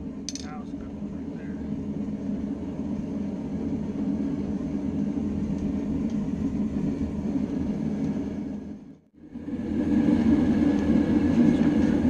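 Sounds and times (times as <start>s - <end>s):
forge roaring: 0.0s - 12.0s.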